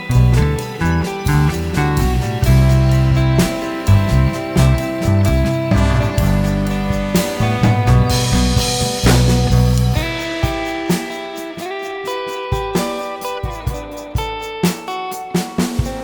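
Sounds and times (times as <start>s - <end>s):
guitar with drums music: 0.0s - 16.0s.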